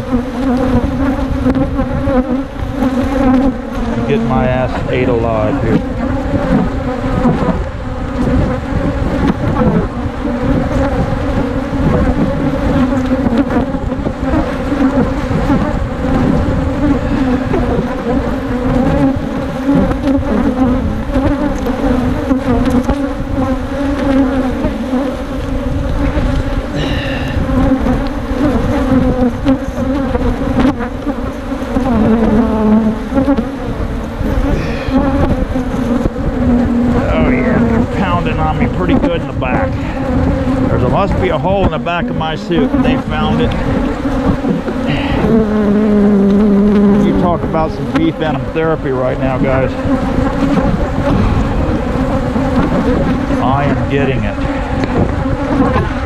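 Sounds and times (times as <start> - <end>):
honeybees buzzing loudly: 0.0 - 56.0.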